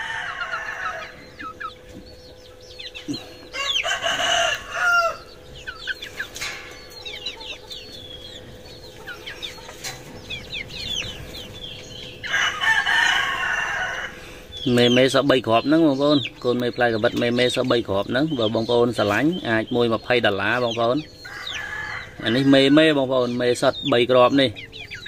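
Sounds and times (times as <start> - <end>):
hens clucking and chirping: 0.0 - 25.0.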